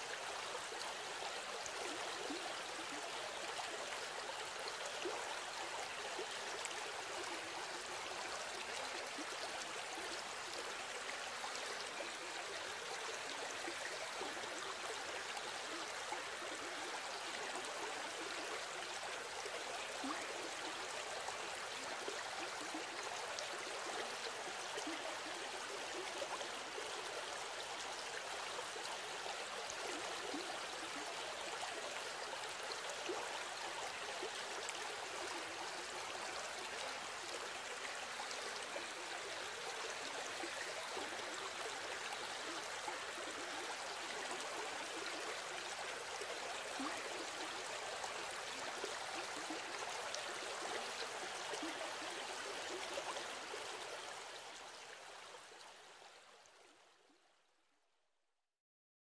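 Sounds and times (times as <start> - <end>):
stream running water: 0.0 - 57.5.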